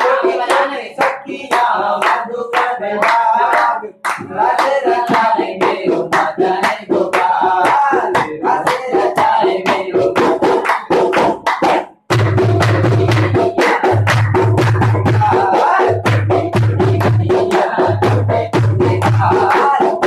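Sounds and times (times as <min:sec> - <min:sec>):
men singing: 0:00.0 - 0:11.9, 0:12.9 - 0:20.0.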